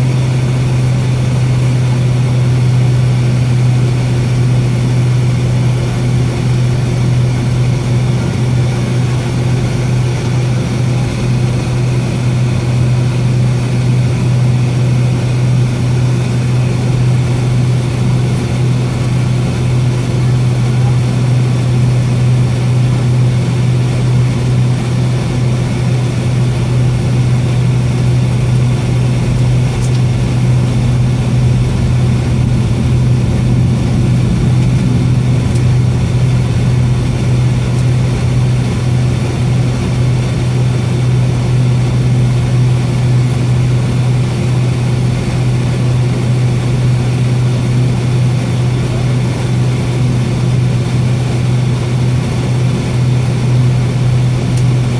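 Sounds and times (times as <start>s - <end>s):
faint steady whine: 0.0s - 54.9s
jet engines low hum: 0.0s - 54.9s.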